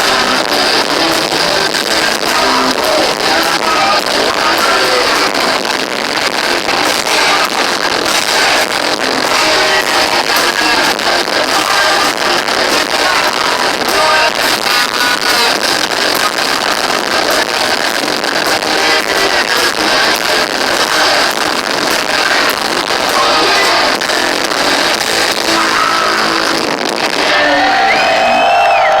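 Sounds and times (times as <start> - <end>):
heavy metal band playing live: 0.0 - 29.0.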